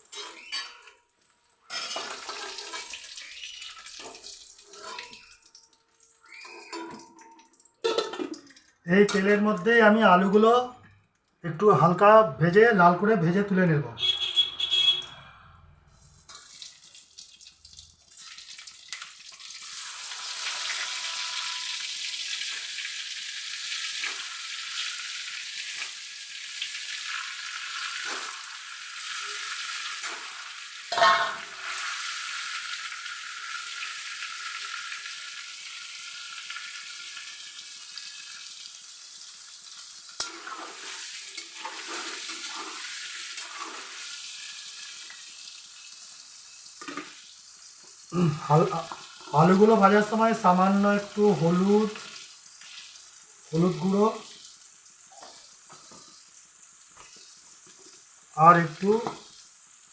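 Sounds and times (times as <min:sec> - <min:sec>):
potatoes sizzling in hot oil: 0:00.0 - 0:05.5, 0:06.1 - 0:07.1, 0:16.0 - 0:59.9.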